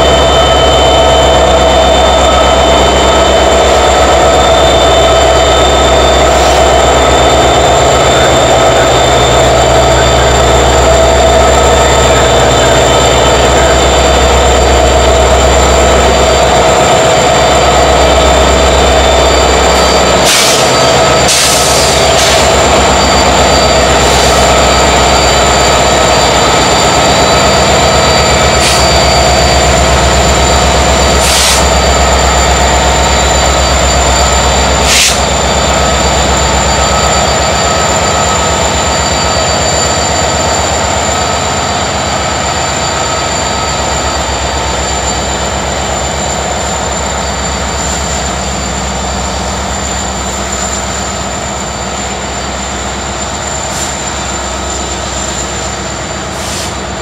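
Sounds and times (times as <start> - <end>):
diesel locomotive rumble: 0.0 - 57.0
wheels squealing on rail: 0.0 - 57.0.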